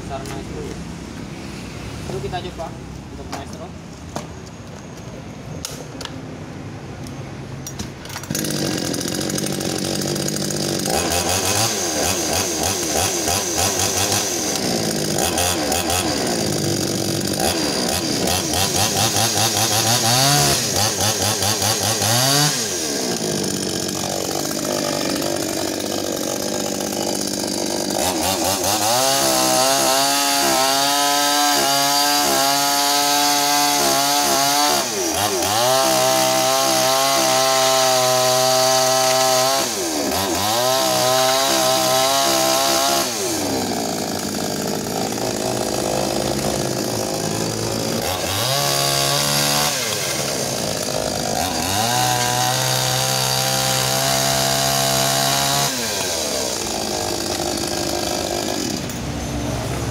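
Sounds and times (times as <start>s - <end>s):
chainsaw revving and cutting wood: 8.1s - 59.9s.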